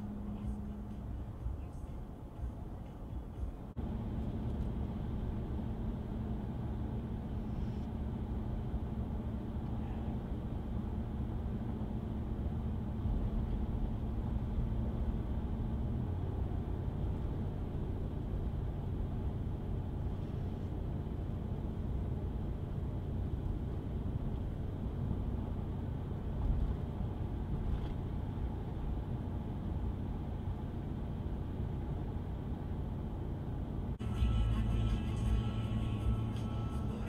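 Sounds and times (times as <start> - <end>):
exhaust drone: 0.0 - 26.2, 32.1 - 37.0
road noise: 0.0 - 37.0.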